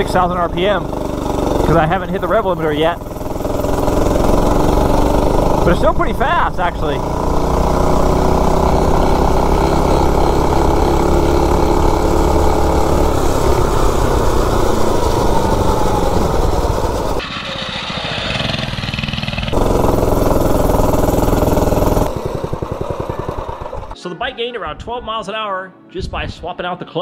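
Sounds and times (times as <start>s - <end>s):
mini bike engine at high revs: 0.0s - 24.0s.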